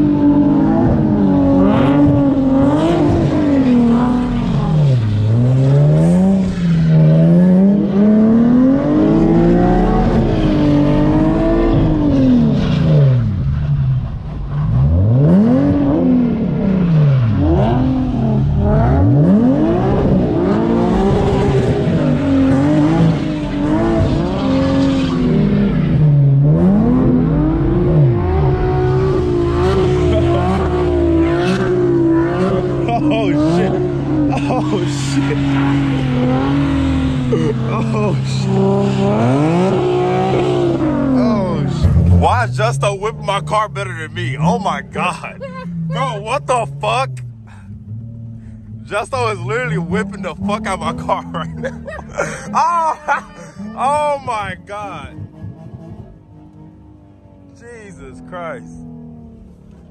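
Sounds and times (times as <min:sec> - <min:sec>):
car engine revving hard: 0:00.0 - 0:59.9.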